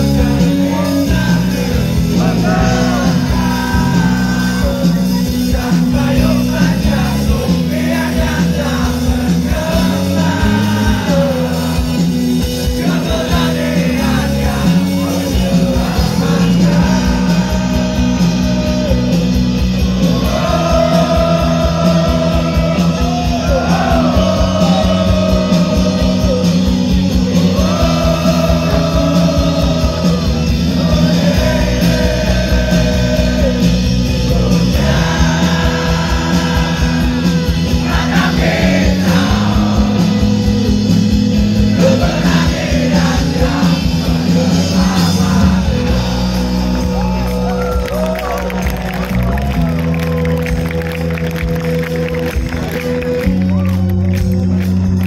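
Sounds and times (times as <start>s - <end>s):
bass guitar: 0.0s - 55.0s
drums: 0.0s - 55.0s
electric guitars: 0.0s - 55.0s
keyboard: 0.0s - 55.0s.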